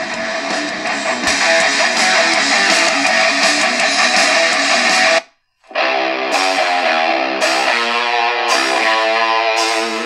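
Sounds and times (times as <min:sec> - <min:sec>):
guitar music from radio speaker: 0:00.0 - 0:10.0.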